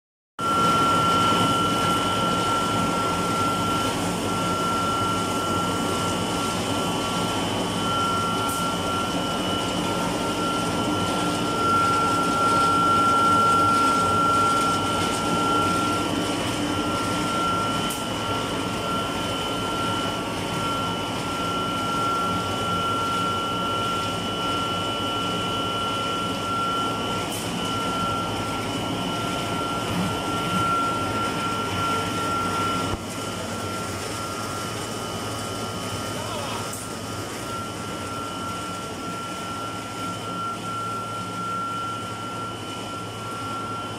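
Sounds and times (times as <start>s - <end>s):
milling machine grinding with whine: 0.4s - 43.9s.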